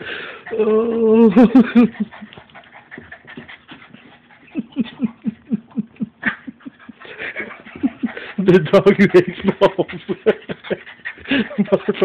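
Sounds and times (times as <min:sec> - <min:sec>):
dog panting with squeaky whines: 0:00.3 - 0:05.3, 0:06.5 - 0:12.0.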